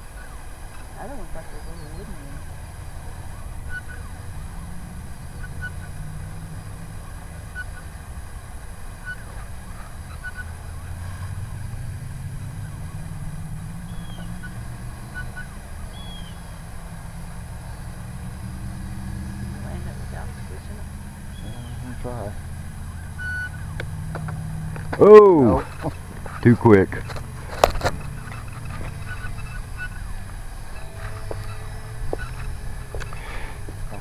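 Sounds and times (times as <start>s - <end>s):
faint distant calls: 0.0s - 34.0s.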